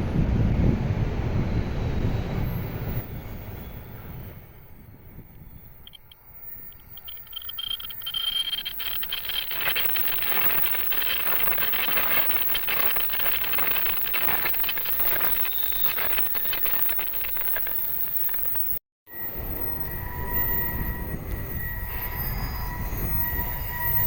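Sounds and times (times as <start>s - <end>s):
high-speed train passing: 0.0s - 24.0s.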